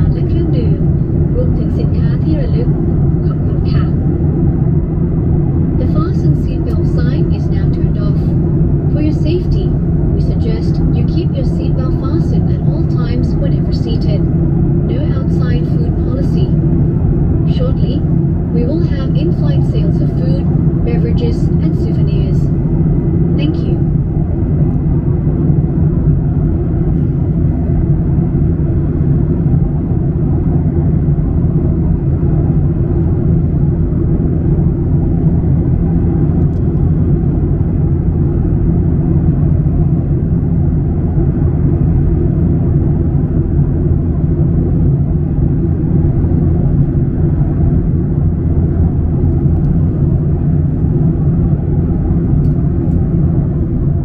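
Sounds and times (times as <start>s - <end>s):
jet airliner cabin roar: 0.0s - 54.0s.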